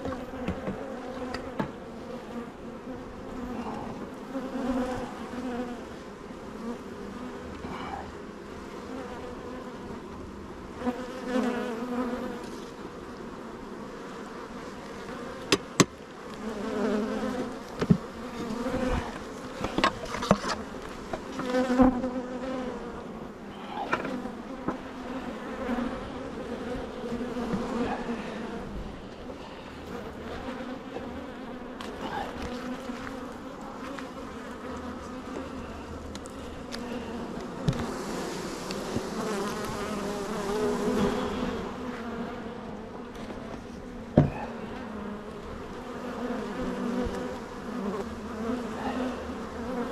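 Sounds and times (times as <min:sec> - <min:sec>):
honeybees buzzing: 0:00.0 - 0:49.9.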